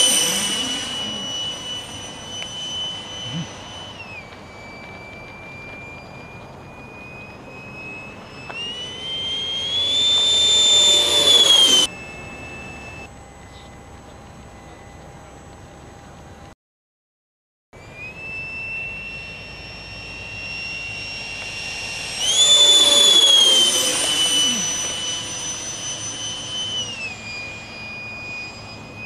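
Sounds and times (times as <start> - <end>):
electric ducted fan whine: 0.0 - 16.5, 17.8 - 29.0.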